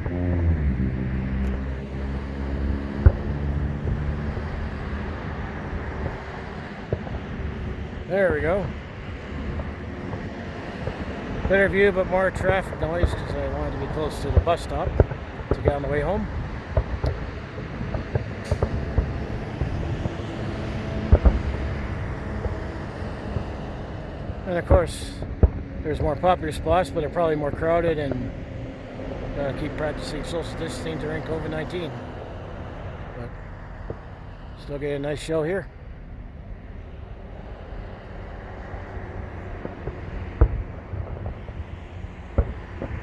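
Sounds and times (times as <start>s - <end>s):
distant firework bang: 0.0s - 34.3s, 36.0s - 43.0s
vehicle engine passing by: 0.0s - 35.1s
traffic rumble: 0.0s - 43.0s.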